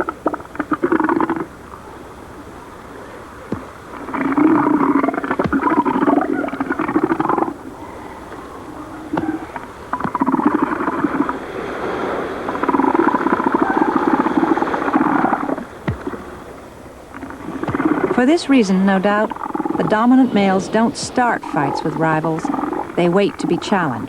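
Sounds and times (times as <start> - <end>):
elephant seals pulsed calls: 0.0 - 24.0.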